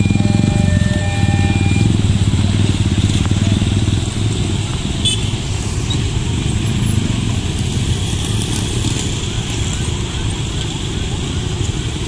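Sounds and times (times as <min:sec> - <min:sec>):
many motorcycle engines droning: 0:00.0 - 0:12.0.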